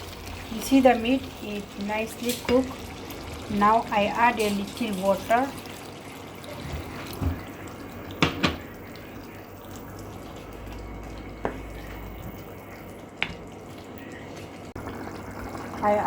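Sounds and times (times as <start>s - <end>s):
water pouring into a pot: 0.0s - 16.0s.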